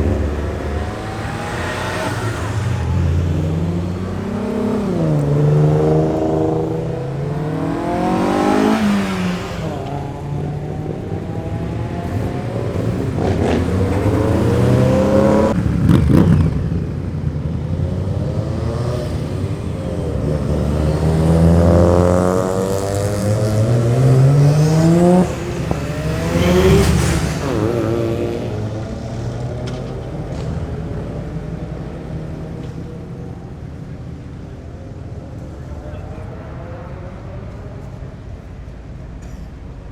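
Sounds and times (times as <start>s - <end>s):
car engines accelerating hard: 0.0s - 39.9s.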